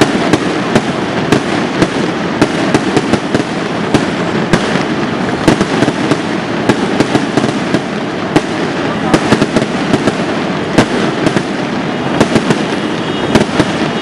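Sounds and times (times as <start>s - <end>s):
firecrackers crackling: 0.0s - 14.0s
firework bangs: 0.0s - 14.0s.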